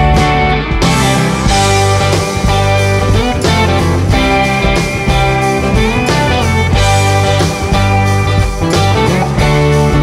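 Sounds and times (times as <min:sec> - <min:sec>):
guitar-led background music: 0:00.0 - 0:10.0.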